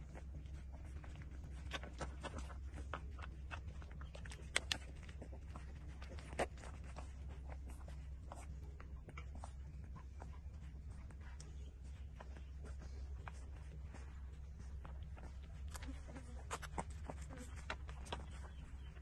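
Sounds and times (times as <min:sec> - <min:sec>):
low hum: 0:00.0 - 0:19.0
puppies suckling wet smacking: 0:00.0 - 0:19.0.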